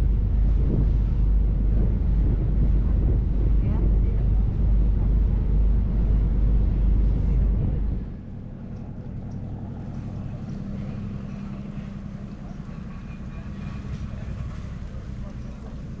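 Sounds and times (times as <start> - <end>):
low motor hum: 0.0 - 16.0
wind buffeting microphone: 0.0 - 16.0.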